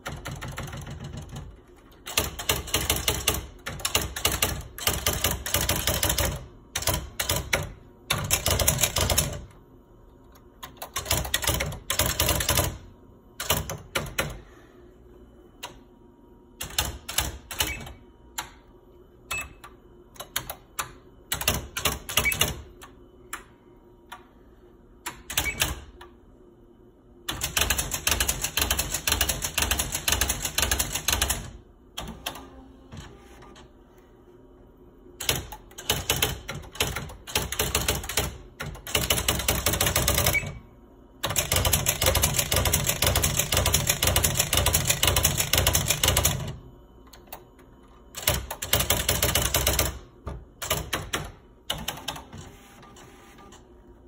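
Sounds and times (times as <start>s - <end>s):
electronic typewriter typing: 0.0s - 9.6s, 10.6s - 14.4s, 16.6s - 18.6s, 19.3s - 23.0s, 25.1s - 26.1s, 27.3s - 33.1s, 35.2s - 47.4s, 48.1s - 53.6s
faint steady hum: 0.0s - 54.0s.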